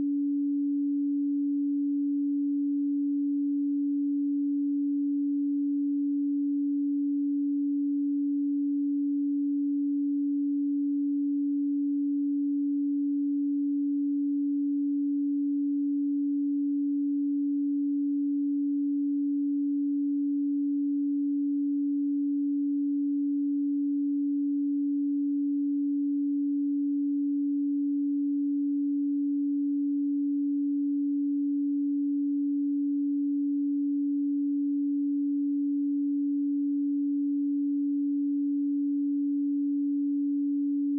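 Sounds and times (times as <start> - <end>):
pure sine tone: 0.0 - 40.9.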